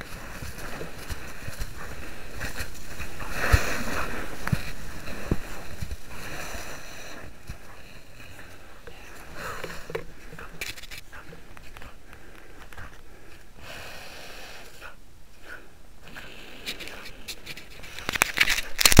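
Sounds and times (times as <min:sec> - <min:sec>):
sniffing and breathing: 0:00.0 - 0:18.8.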